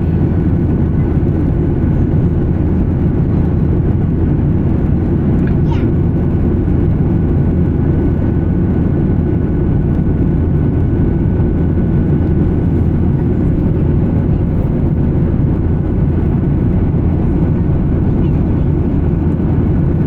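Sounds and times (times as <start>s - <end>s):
jet engines and airflow rumble: 0.0s - 20.0s.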